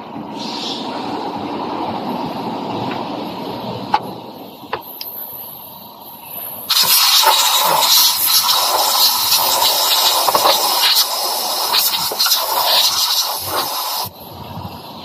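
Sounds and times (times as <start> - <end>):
rushing air hiss: 0.3 - 15.0.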